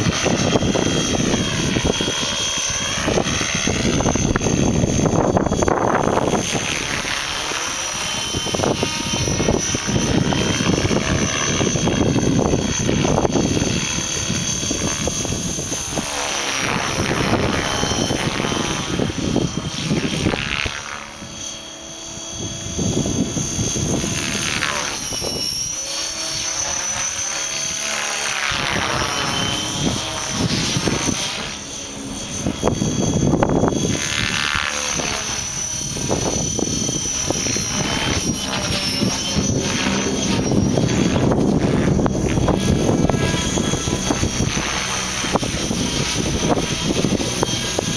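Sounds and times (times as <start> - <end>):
wind buffeting microphone: 0.0 - 21.3, 22.1 - 27.4, 28.0 - 47.9
model helicopter whine and rotor: 0.0 - 47.9.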